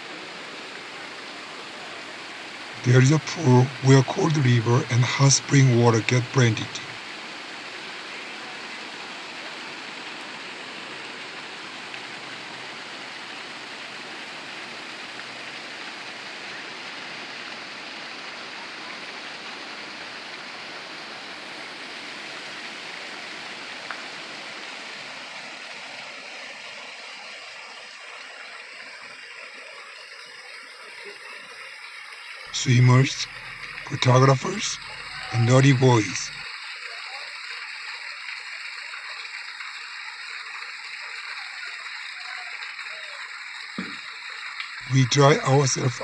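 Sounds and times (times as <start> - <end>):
flowing water: 0.0 - 46.0.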